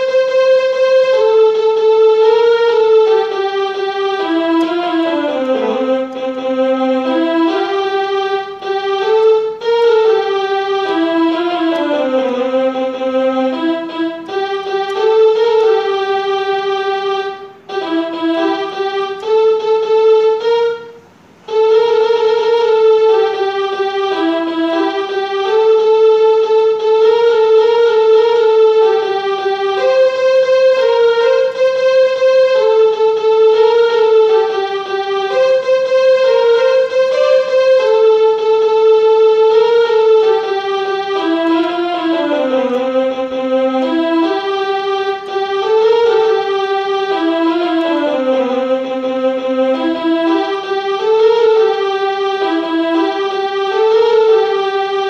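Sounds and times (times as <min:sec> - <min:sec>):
electronic keyboard melody: 0:00.0 - 0:55.0.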